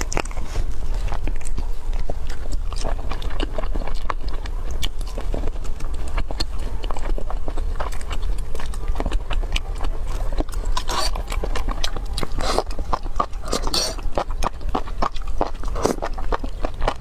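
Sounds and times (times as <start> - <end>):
slurping and chewing: 0.0 - 17.0
wet mouth noises: 0.0 - 17.0.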